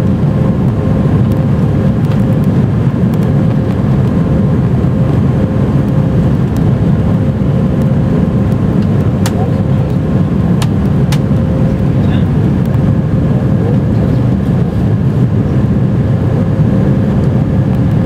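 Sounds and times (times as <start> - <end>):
aircraft engine and airflow roar: 0.0 - 18.0.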